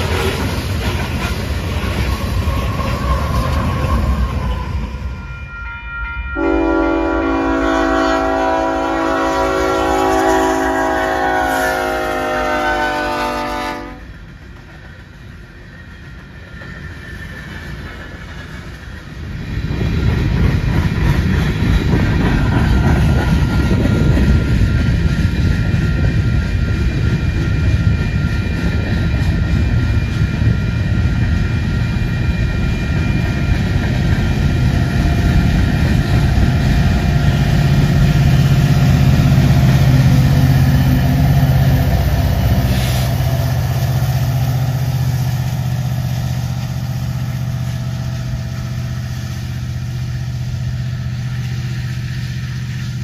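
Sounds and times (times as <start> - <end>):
train wheels rumbling on rails: 0.0 - 5.5, 6.4 - 53.0
diesel locomotive engine drone: 0.0 - 53.0.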